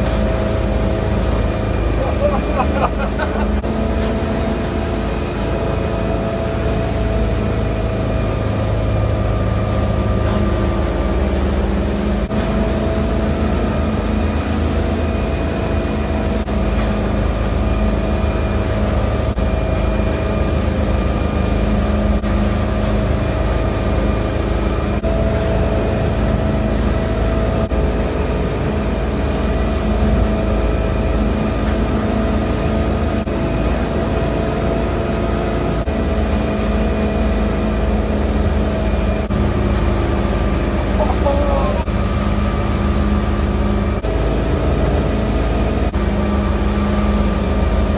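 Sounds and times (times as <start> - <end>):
motorboat engine running: 0.0 - 47.9
rush of churning wake: 0.0 - 47.9.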